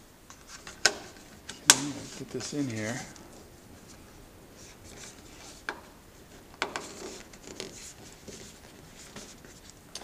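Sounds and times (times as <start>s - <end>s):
plastic rubbing and scuffing: 0.4s - 9.8s.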